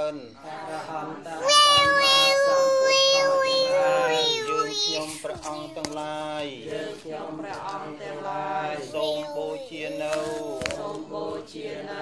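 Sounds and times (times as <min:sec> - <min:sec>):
voices chanting in unison: 0:00.0 - 0:12.0.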